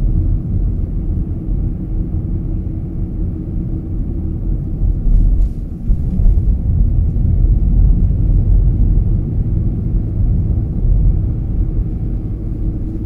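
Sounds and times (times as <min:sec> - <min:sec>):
car driving from inside cabin: 0:00.0 - 0:13.0.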